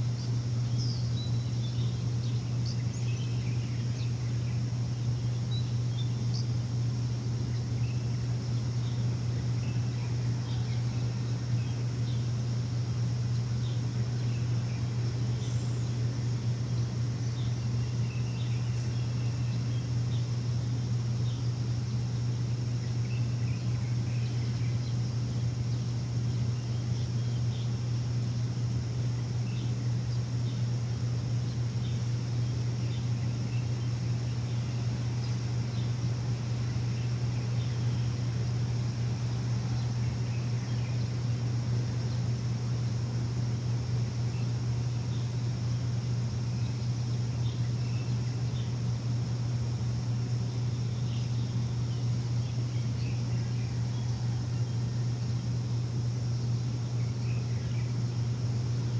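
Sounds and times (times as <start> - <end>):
bird chirps: 0.0 - 42.8, 43.6 - 58.9
machine humming: 0.0 - 58.9.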